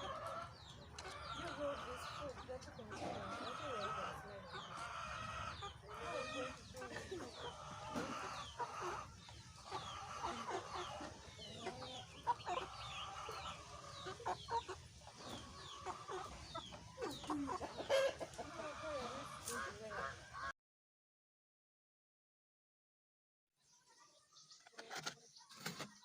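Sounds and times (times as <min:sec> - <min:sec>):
chickens clucking: 0:00.0 - 0:20.5, 0:23.6 - 0:26.0
chicks peeping: 0:00.0 - 0:20.5, 0:23.6 - 0:26.0.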